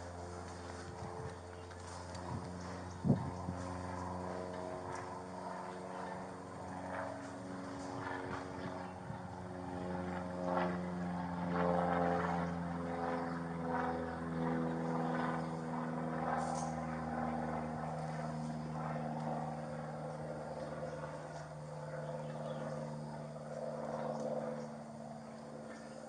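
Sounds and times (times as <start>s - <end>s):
steady engine drone: 0.0s - 26.0s.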